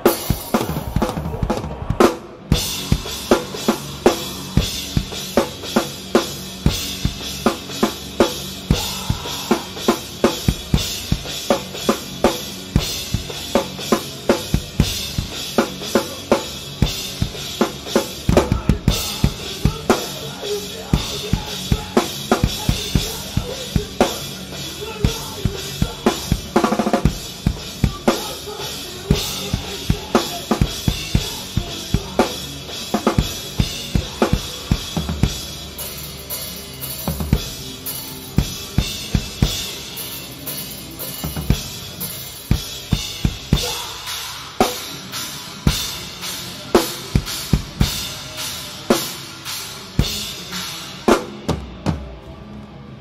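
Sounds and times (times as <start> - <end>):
drum kit rock beat: 0.0 - 52.2.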